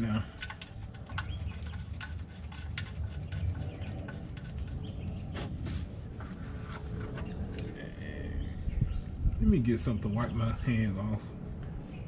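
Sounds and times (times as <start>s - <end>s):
wind buffeting microphone: 0.6s - 10.7s.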